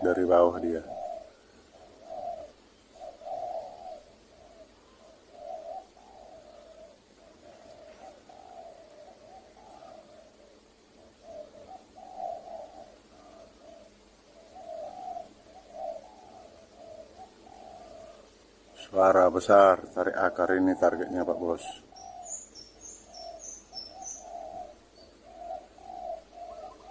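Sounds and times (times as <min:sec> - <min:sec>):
dove cooing: 0:00.0 - 0:26.9.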